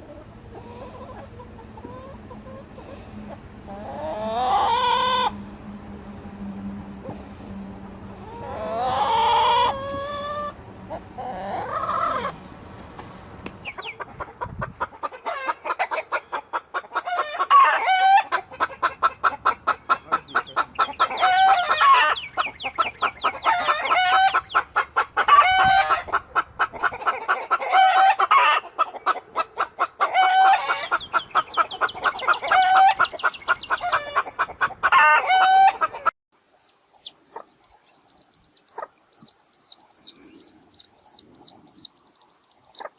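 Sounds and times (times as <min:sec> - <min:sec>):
chicken clucking and squawking: 0:00.0 - 0:05.5, 0:08.0 - 0:12.4, 0:13.6 - 0:42.9.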